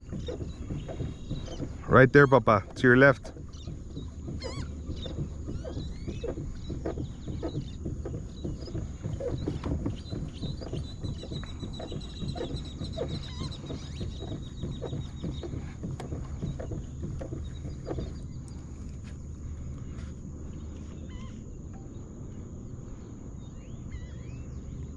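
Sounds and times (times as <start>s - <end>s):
seabirds calling: 0.0s - 24.9s
wind and water rumble: 0.0s - 24.9s.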